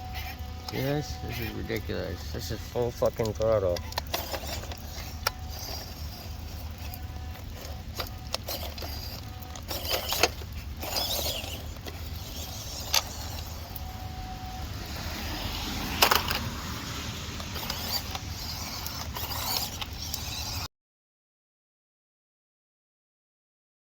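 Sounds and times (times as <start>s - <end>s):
electric motor humming: 0.0s - 20.7s.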